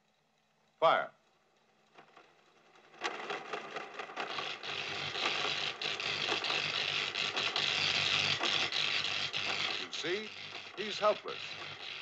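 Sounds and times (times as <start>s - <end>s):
electrical crackle of rapid clicks: 0.1s - 12.0s.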